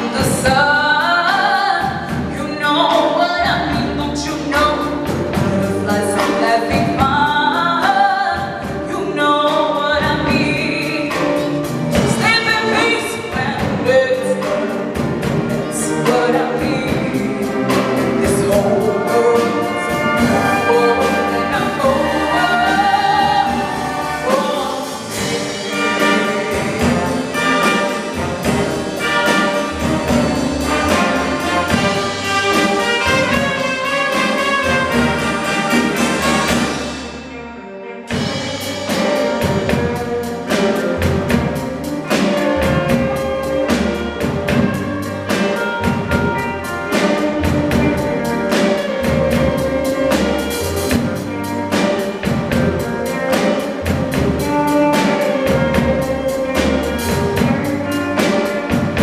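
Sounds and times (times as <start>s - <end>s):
drum kit: 0.0s - 37.4s, 38.1s - 59.0s
double bass: 0.0s - 59.0s
piano: 0.0s - 59.0s
trombones: 0.0s - 59.0s
saxophones: 10.3s - 59.0s
trumpets: 10.4s - 59.0s.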